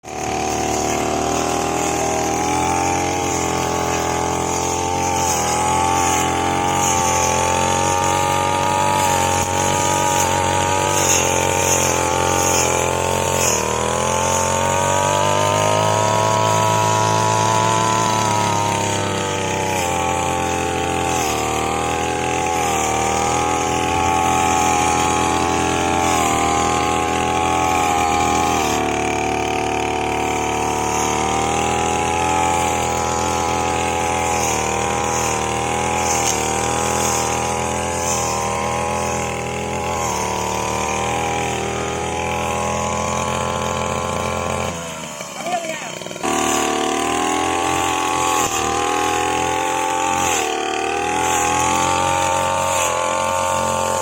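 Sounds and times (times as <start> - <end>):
small petrol engine running: 0.0 - 54.0.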